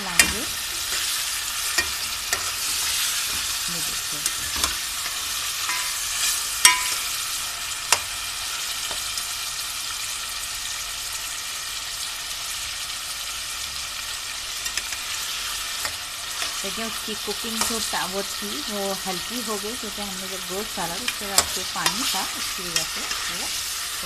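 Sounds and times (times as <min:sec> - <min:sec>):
meat sizzling in hot fat: 0:00.0 - 0:24.0.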